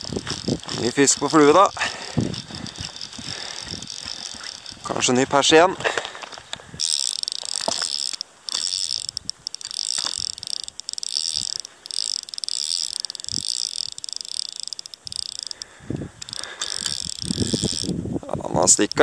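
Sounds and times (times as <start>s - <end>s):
fishing reel drag buzzing: 0.0s - 5.2s, 6.7s - 18.0s, 18.6s - 19.0s.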